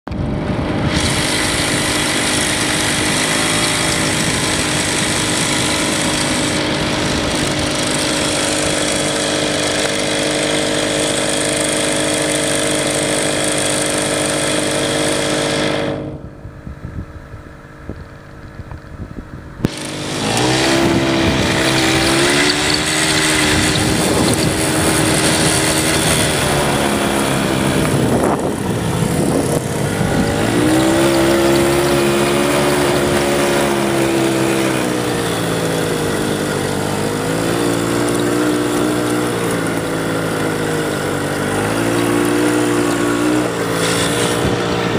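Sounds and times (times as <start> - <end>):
quad bike engine revving: 0.1 - 44.9.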